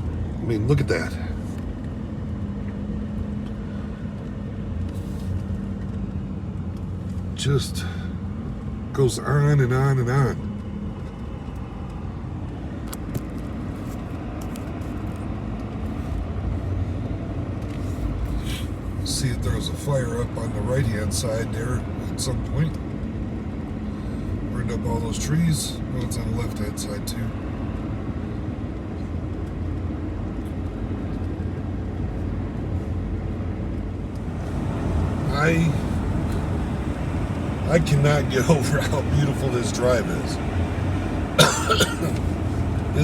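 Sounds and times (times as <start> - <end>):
truck engine and road drone: 0.0 - 43.0.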